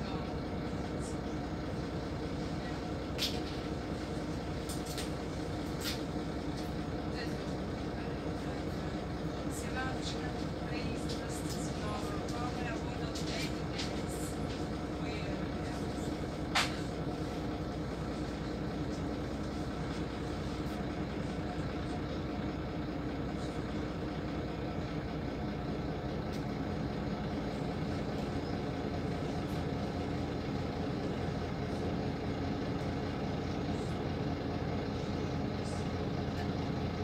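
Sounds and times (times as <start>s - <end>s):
bus diesel engine idling: 0.0s - 37.0s.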